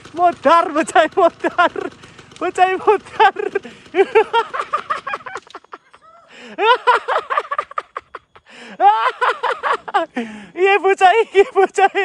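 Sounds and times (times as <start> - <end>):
man laughing: 0.2 - 12.0.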